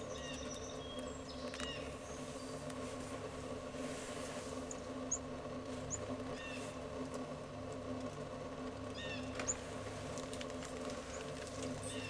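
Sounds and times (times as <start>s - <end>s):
small birds chirping: 0.0s - 7.3s, 8.0s - 12.0s
steady low hum: 0.0s - 12.0s.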